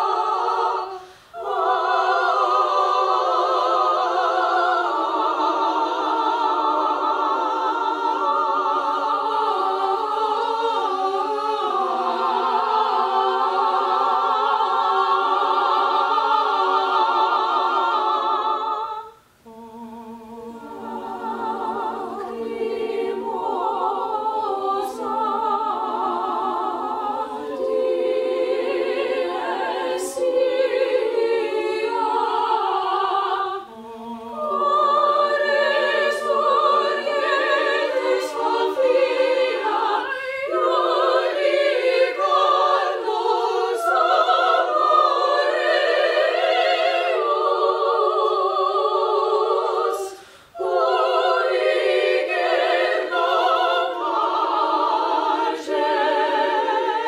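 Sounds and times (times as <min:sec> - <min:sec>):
a cappella choir singing chords: 0:00.0 - 0:57.0.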